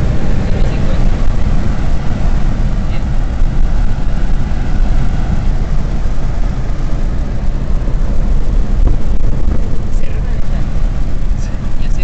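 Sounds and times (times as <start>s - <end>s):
car engine and tyre drone: 0.0s - 12.0s.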